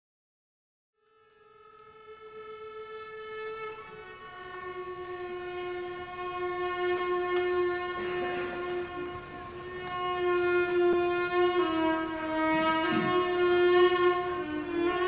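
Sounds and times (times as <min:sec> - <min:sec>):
viola bowing long notes: 0:01.0 - 0:15.0.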